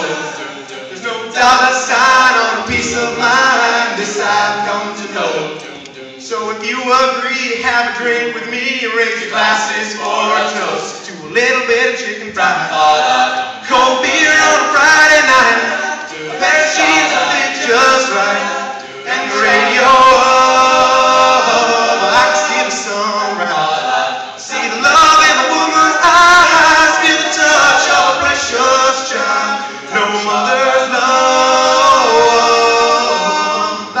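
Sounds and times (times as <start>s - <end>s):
a cappella group singing: 0.0s - 34.0s.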